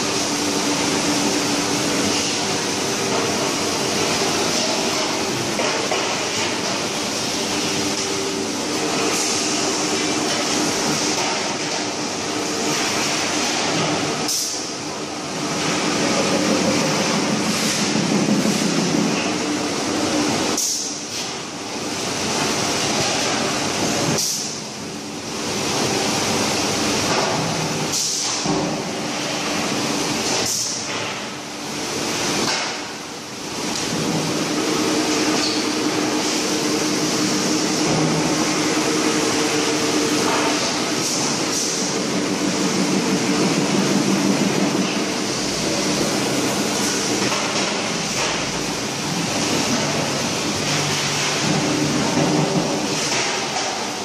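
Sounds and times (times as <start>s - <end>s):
factory machinery din: 0.0s - 54.0s
steady hum: 0.0s - 54.0s.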